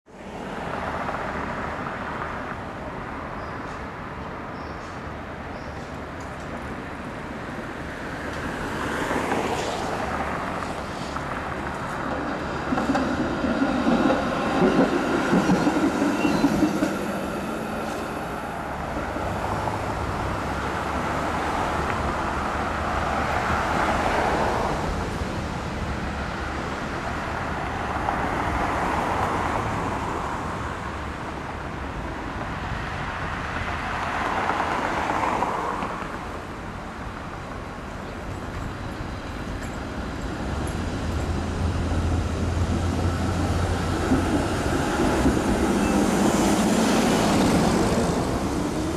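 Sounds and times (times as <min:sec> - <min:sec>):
road traffic: 0:00.0 - 0:48.9
streetcar rolling: 0:00.1 - 0:48.9.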